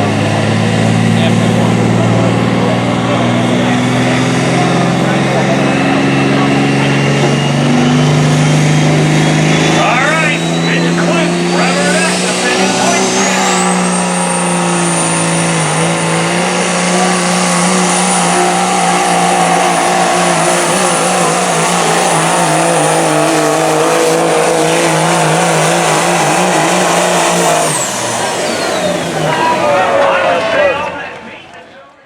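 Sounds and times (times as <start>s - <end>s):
diesel truck engine at full throttle: 0.0s - 32.0s
turbocharger whistle: 3.1s - 31.1s.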